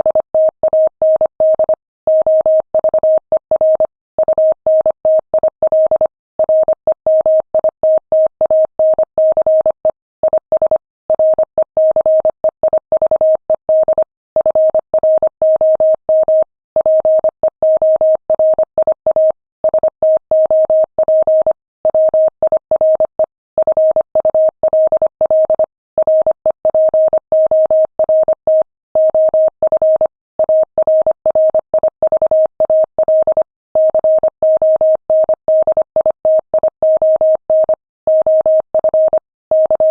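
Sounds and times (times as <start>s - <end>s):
morse code beeps: 0.1s - 39.9s.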